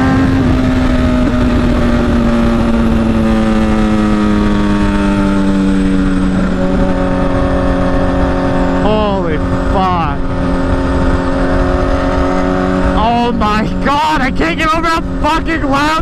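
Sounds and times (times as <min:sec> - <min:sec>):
loud motorcycle engine revving: 0:00.0 - 0:16.0
wind buffeting microphone: 0:00.0 - 0:16.0.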